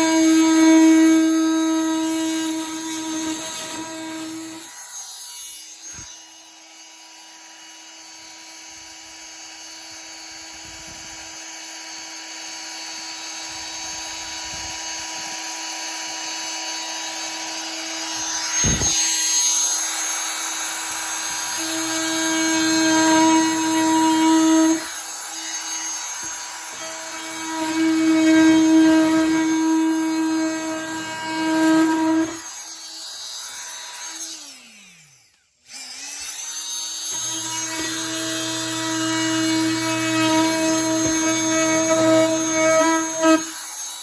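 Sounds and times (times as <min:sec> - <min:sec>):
oscillating multi-tool cutting plastic: 0:00.0 - 0:44.0.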